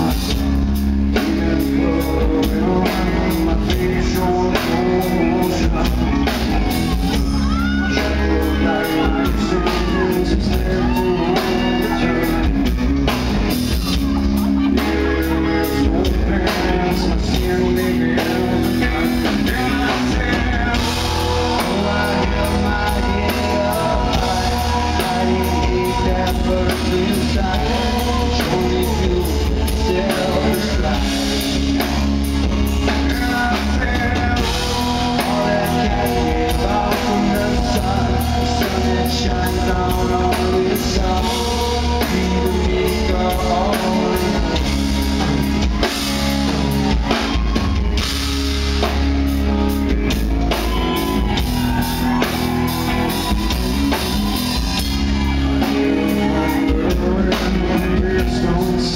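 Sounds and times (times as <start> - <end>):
live rock band playing: 0.0 - 58.9
male lead singer: 0.0 - 58.9.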